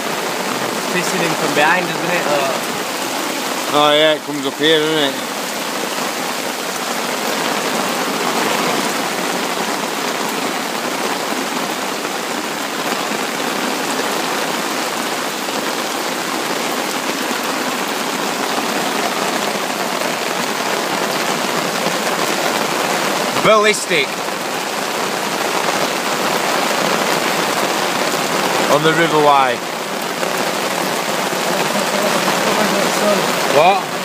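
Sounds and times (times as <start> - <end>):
heavy rain on water and stones: 0.0 - 34.0.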